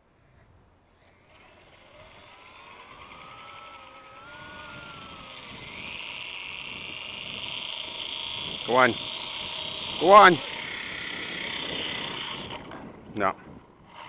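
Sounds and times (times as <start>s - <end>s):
rc helicopter motor whine and rotor: 0.8s - 14.0s
higher brighter whine: 1.0s - 13.4s.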